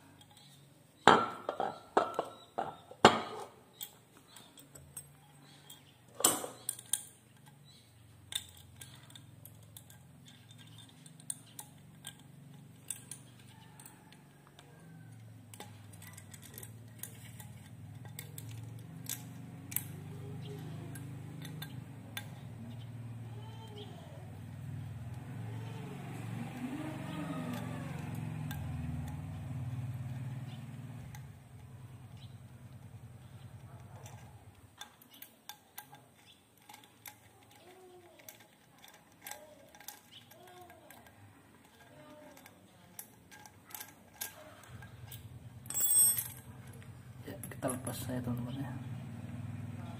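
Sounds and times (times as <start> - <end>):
small metal clicks and clinks: 0.0 - 2.8, 3.7 - 48.1.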